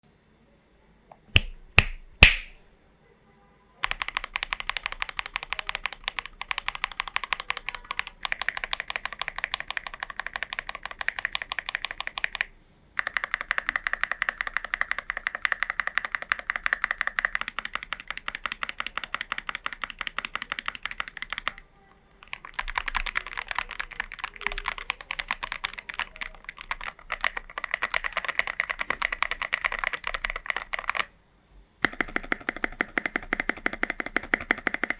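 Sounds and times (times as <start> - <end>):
mechanical keyboard typing: 1.3 - 2.6, 3.8 - 31.1, 31.8 - 34.9.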